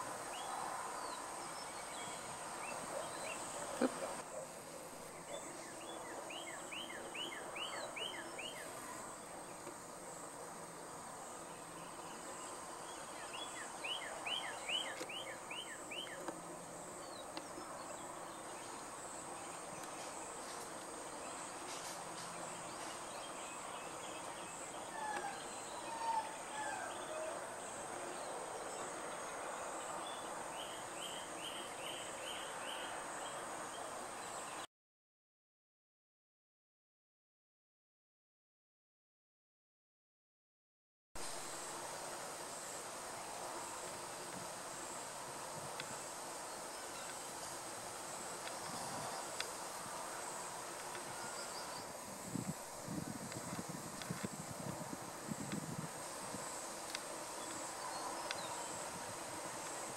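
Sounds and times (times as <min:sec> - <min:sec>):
faint hiss: 0:00.0 - 0:34.6, 0:41.2 - 0:59.9.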